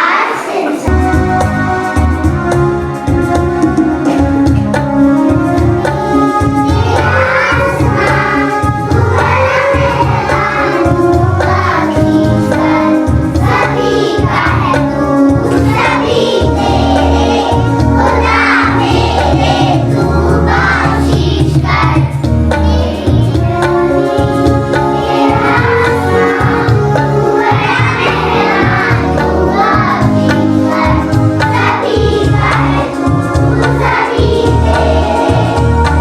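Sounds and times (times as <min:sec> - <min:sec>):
children singing together: 0:00.0 - 0:04.5, 0:05.1 - 0:36.0
instrumental backing music: 0:00.0 - 0:36.0.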